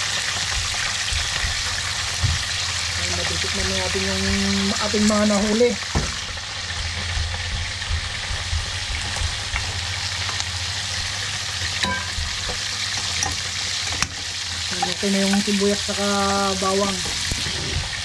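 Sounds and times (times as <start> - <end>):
fish deep-frying in hot oil: 0.0 - 18.0.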